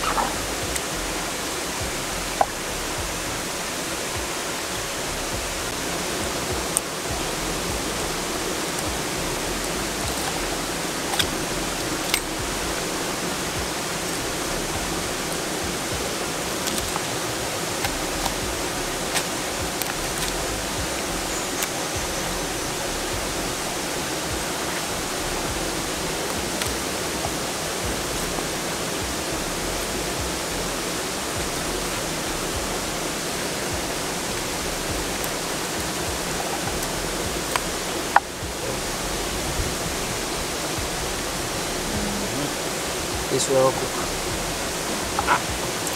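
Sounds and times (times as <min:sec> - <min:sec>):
flowing water rushing: 0:00.0 - 0:45.9.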